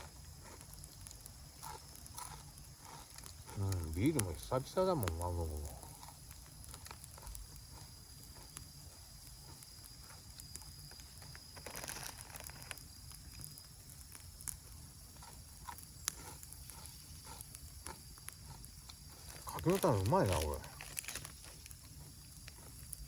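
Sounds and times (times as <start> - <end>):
campfire crackling and popping: 0.0 - 23.0
sharp fire snaps: 0.0 - 23.0.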